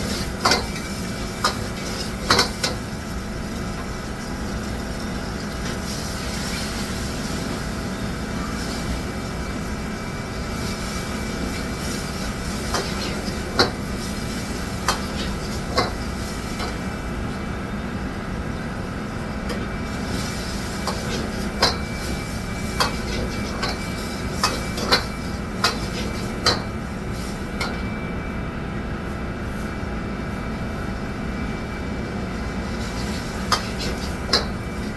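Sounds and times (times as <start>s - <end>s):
mechanical hum of kitchen: 0.0s - 34.9s.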